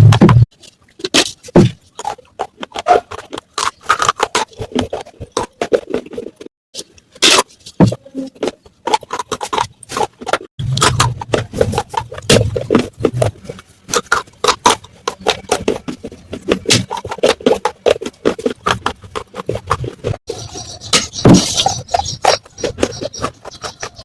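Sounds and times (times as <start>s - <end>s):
clay pot pieces crunching: 0.0s - 24.0s.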